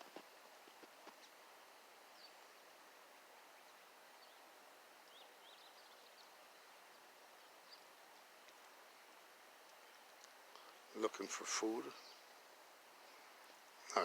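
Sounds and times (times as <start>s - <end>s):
faint steady hiss: 0.0s - 14.0s
small birds chirping: 0.0s - 14.0s.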